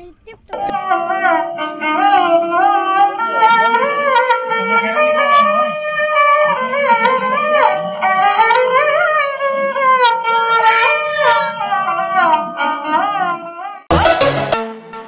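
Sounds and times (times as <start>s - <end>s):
high voice singing: 0.0s - 14.6s
plucked string accompaniment: 0.6s - 15.0s.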